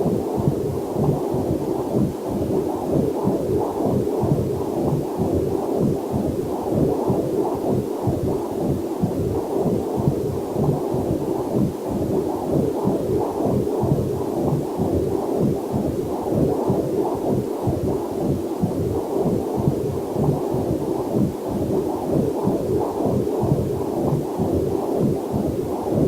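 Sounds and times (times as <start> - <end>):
doppler heartbeat whooshing pulse: 0.0 - 26.0.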